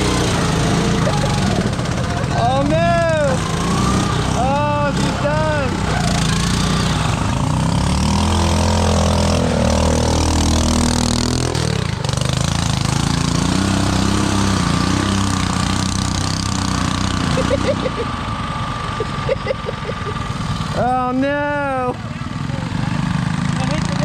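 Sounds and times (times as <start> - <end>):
tractor engine running hard: 0.0 - 24.0.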